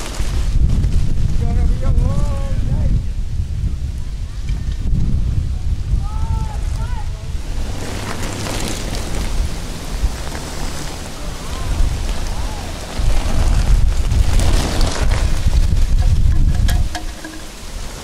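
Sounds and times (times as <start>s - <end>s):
rain falling: 0.0s - 1.4s, 3.1s - 18.0s
wind gusting over microphone: 0.0s - 18.0s.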